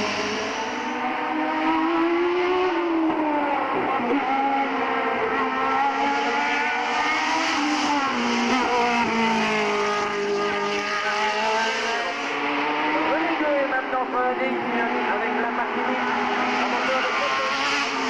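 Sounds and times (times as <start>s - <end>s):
race car engine revving past: 0.0s - 18.0s.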